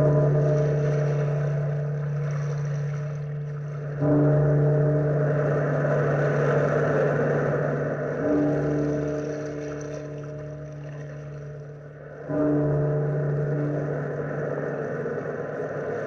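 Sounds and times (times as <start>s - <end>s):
large bell tolling: 0.0s - 2.4s, 3.2s - 10.8s, 11.5s - 14.4s
surf: 0.0s - 16.0s.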